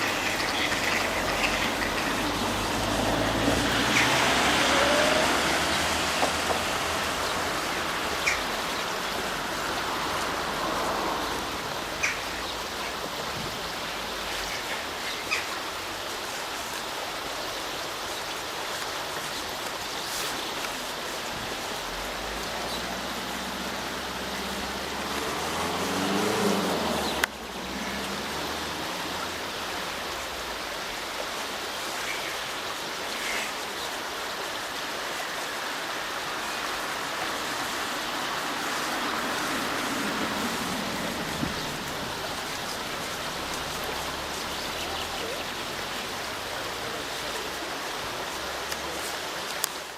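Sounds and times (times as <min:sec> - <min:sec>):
flowing water rushing: 0:00.0 - 0:49.9.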